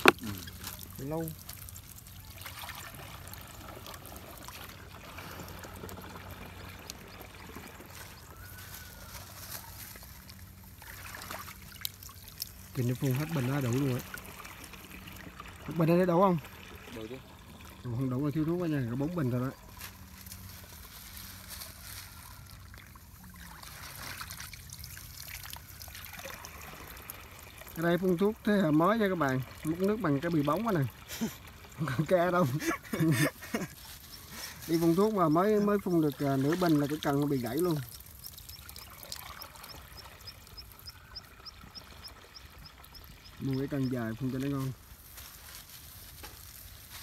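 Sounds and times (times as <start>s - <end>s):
liquid trickling and splashing: 0.0s - 47.0s.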